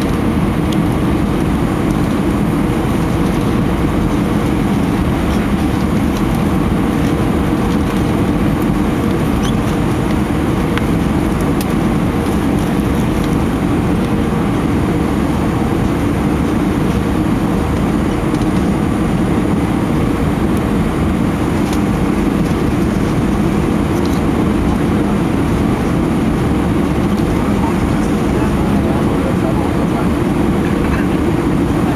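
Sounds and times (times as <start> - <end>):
airplane cabin engine rumble: 0.0 - 31.9
faint steady hum: 0.0 - 31.9.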